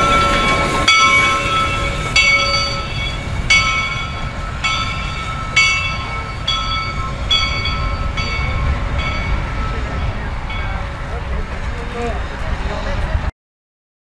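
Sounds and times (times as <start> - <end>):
steam locomotive bell ringing: 0.0 - 13.2
low rumble of moving locomotive: 0.0 - 13.3.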